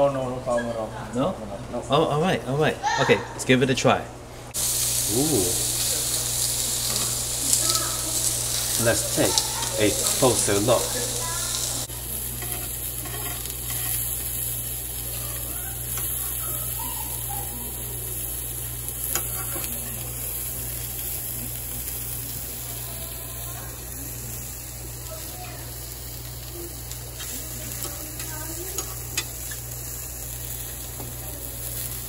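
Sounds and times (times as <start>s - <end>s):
meat and vegetables sizzling on grill: 4.5s - 32.0s.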